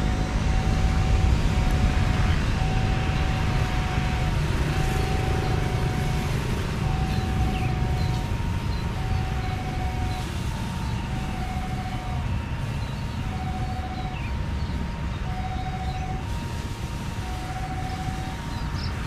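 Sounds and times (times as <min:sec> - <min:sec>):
jet engines rumbling: 0:00.0 - 0:19.0
two-tone siren: 0:00.0 - 0:19.0.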